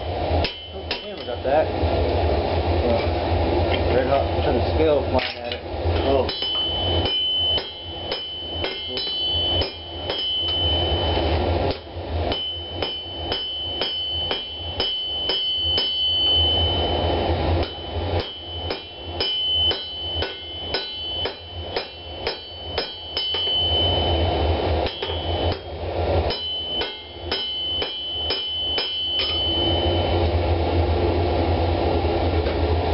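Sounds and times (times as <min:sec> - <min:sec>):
steady low hum: 0:00.0 - 0:32.9
hammer striking metal on anvil: 0:00.3 - 0:01.6, 0:05.1 - 0:30.3.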